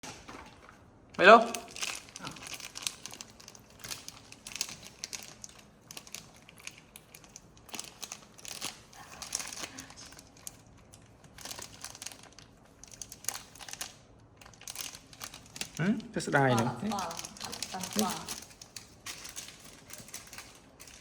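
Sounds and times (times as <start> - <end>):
crinkling and rustling: 0.0 - 21.0.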